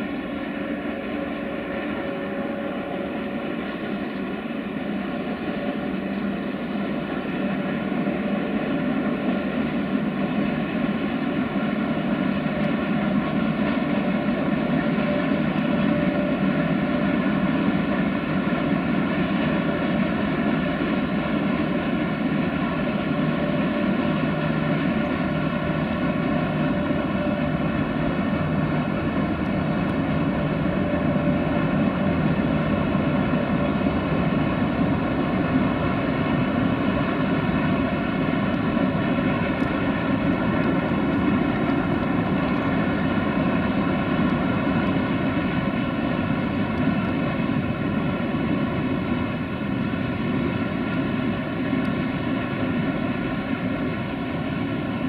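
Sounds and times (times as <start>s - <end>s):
electric train drone: 0.0s - 55.0s.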